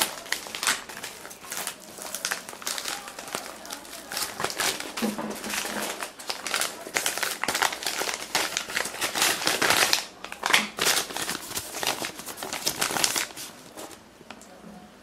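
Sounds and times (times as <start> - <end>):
paper wrapper crinkling: 0.0 - 14.4.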